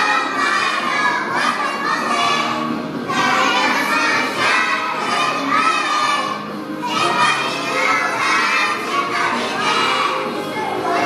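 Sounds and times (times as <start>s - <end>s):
young children shouting together: 0.0s - 11.0s.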